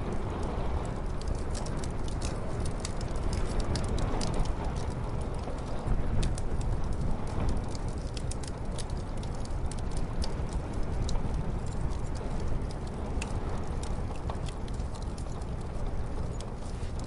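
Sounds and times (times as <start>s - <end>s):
muffled rumble of storm wind: 0.0s - 17.0s
wood fire crackling and popping: 0.0s - 17.0s.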